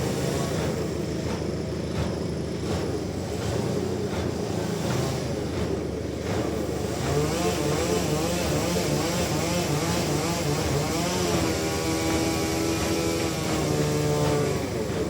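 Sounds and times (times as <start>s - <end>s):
sawmill machinery droning: 0.0s - 15.0s.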